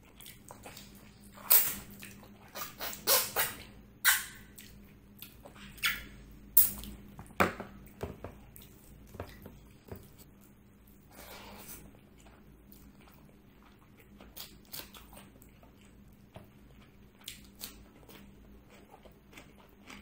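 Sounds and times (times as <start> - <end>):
man chewing food: 0.0 - 3.0, 4.5 - 6.0, 6.6 - 20.0.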